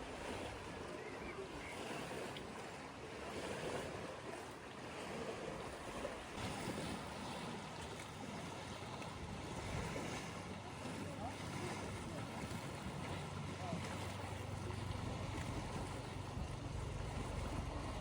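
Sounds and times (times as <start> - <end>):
lake waves washing against shore: 0.0 - 18.0.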